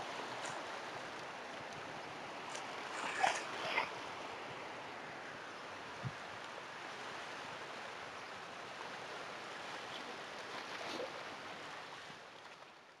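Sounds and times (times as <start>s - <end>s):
small waves washing on sand: 0.0s - 13.0s.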